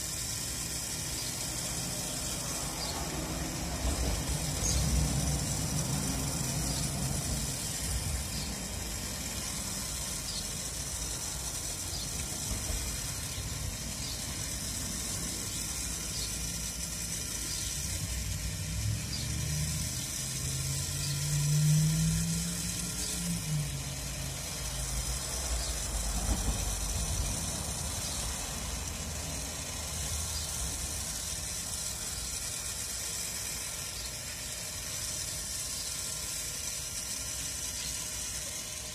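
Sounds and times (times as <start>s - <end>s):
electric rotisserie humming: 0.0s - 38.9s
loud humming tone: 0.0s - 38.9s.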